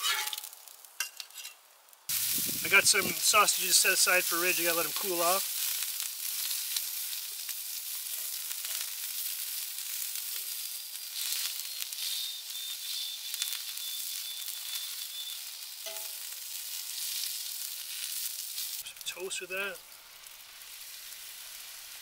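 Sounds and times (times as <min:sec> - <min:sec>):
sausages sizzling: 0:00.0 - 0:22.0.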